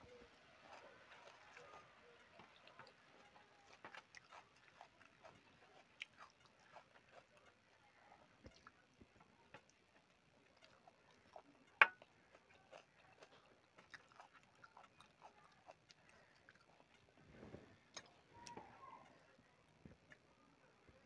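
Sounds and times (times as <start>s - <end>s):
fingers mixing food on a plate: 0.0s - 20.4s
person chewing: 0.6s - 17.2s, 17.8s - 18.6s.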